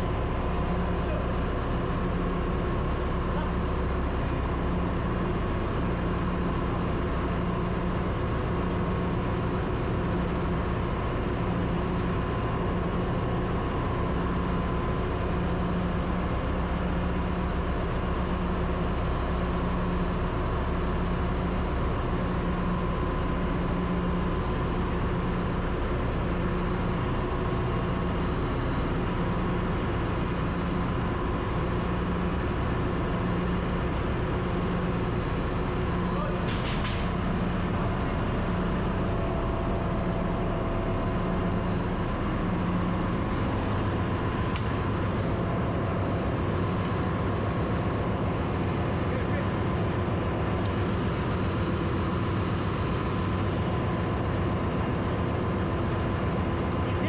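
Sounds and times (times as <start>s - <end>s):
engine-room machinery hum: 0.0s - 57.0s.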